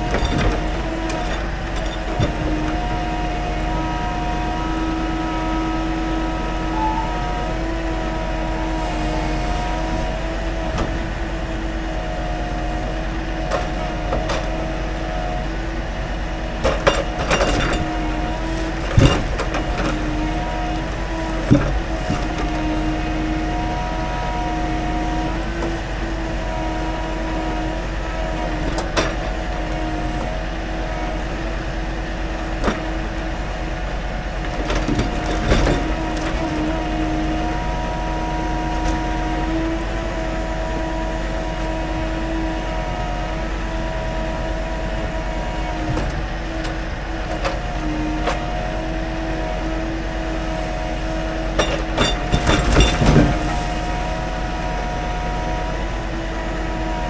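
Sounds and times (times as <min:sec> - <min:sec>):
hydraulic humming whine: 0:00.0 - 0:57.0
truck engine droning: 0:00.0 - 0:57.0.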